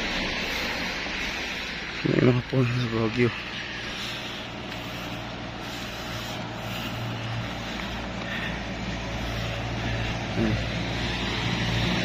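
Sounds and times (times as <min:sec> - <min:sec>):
vehicle engine low hum: 0:00.0 - 0:12.0.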